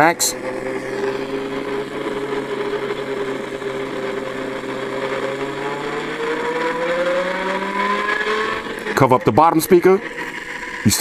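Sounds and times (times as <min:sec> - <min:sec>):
car engine revving through loudspeaker: 0:00.0 - 0:11.0.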